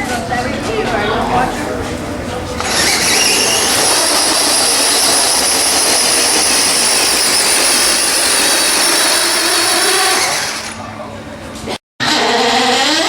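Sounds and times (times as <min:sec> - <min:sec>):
small engine high-pitched whine: 0:00.0 - 0:13.0.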